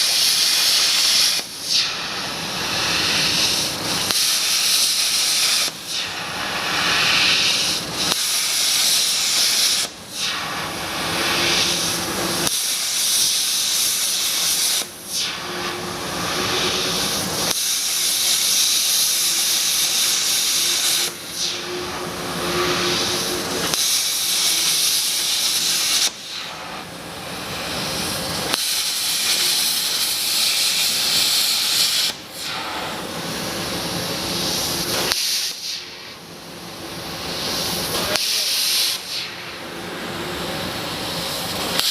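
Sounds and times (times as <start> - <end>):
plasma torch hissing: 0.0 - 41.9.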